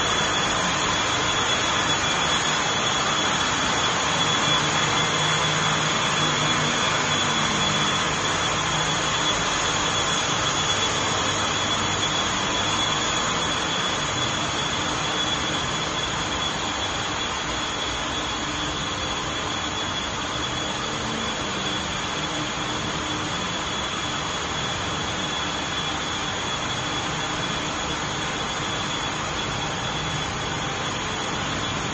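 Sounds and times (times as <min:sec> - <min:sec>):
high machine whine: 0:00.0 - 0:31.9
machinery rushing noise: 0:00.0 - 0:31.9.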